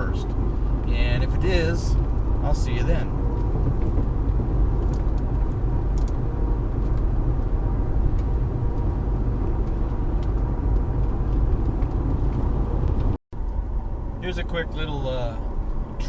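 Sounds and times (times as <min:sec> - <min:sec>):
road rumble inside car: 0:00.0 - 0:16.0.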